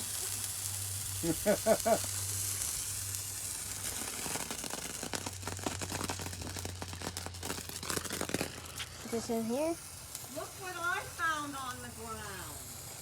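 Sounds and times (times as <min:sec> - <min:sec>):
firework crackling: 0:00.0 - 0:13.0
firework fountain hissing: 0:00.0 - 0:13.0.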